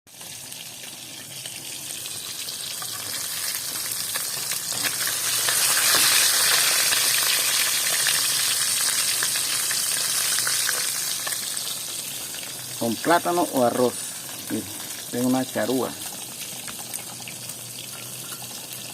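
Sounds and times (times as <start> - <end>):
fish frying in hot oil: 0.1 - 18.9.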